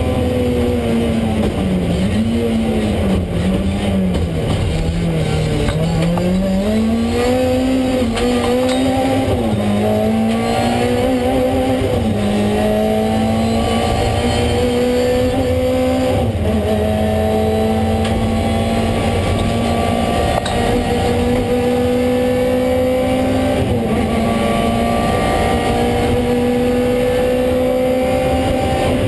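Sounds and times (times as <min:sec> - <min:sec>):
car engine revving through upshifts: 0:00.0 - 0:29.0
road and tyre noise: 0:00.0 - 0:29.0.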